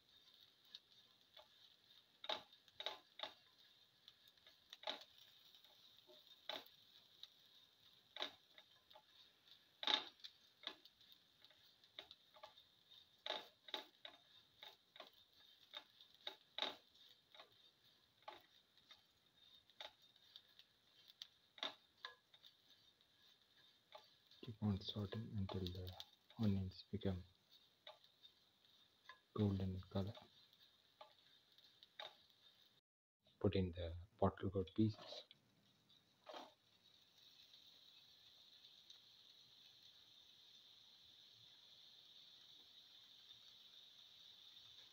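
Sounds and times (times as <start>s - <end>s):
spatula scraping a pan: 0.0s - 32.8s, 35.0s - 44.9s.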